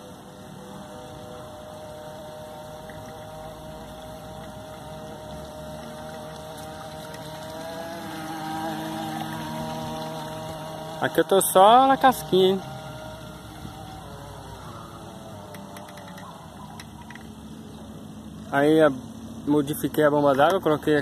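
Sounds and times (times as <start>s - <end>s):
model speedboat motor whine: 0.0s - 21.0s.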